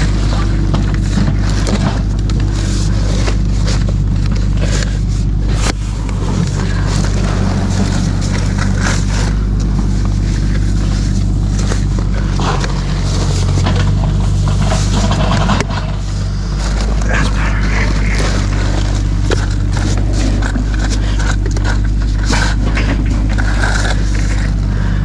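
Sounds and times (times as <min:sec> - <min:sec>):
heavy equipment engine running: 0:00.0 - 0:25.0.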